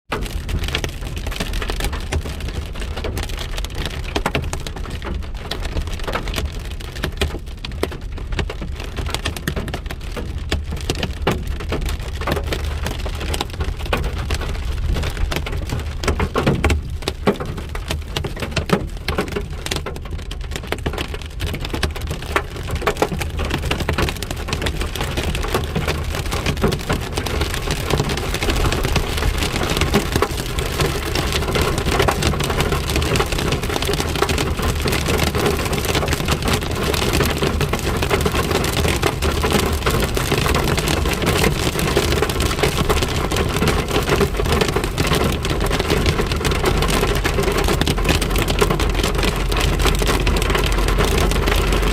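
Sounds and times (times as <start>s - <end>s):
steady hiss of rain: 0.1s - 51.9s.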